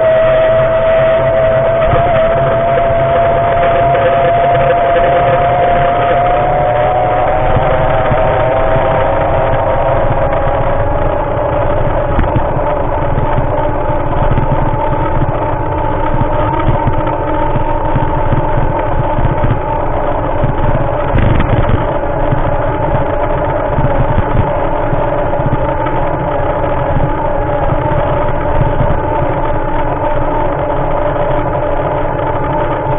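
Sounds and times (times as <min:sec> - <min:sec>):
motorbike engine running: 0:00.0 - 0:32.9
wind rumble on microphone: 0:00.0 - 0:32.9.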